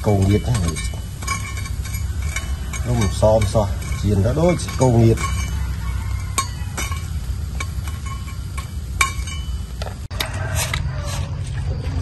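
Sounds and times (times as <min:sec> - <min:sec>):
metal spatula clinking on strainer: 0:00.0 - 0:09.7
steady low rumble: 0:00.0 - 0:10.1.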